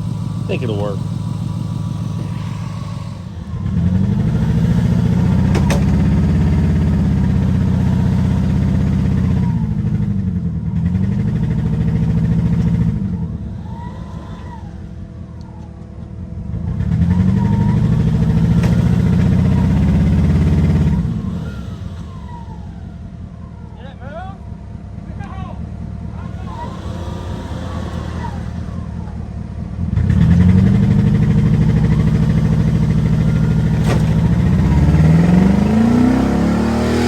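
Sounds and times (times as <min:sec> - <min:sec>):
vehicle engine revving: 0:00.0 - 0:37.0.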